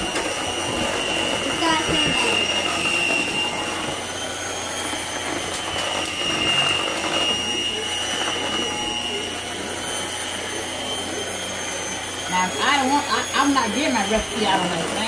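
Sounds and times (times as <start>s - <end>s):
electric mixer motor whining: 0.0s - 15.0s.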